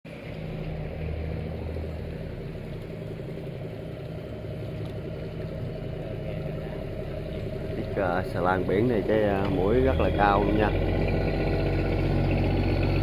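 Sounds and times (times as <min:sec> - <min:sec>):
barge diesel engine drone: 0:00.0 - 0:13.0.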